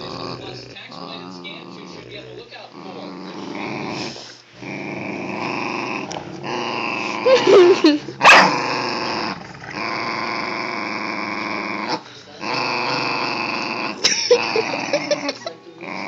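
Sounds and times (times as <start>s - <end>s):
dogs growling: 0.0s - 16.0s.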